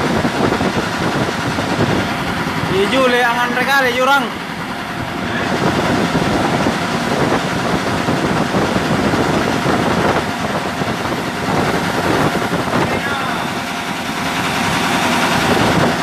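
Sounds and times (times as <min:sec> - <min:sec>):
diesel engine clattering at idle: 0:00.0 - 0:16.0.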